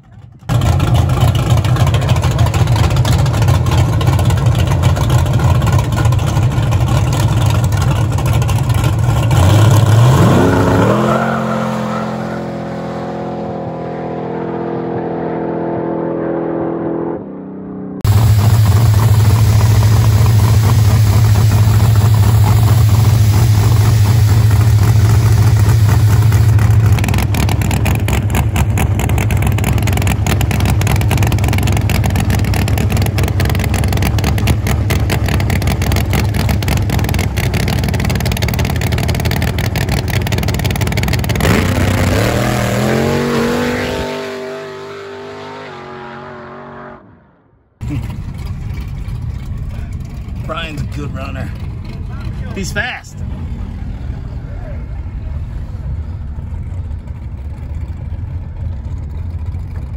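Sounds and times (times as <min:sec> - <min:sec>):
race car engine revving: 0:00.0 - 0:59.5.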